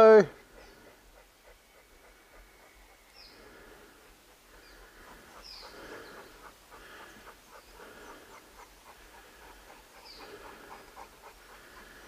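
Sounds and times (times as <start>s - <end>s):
heavy panting: 0.0s - 12.0s.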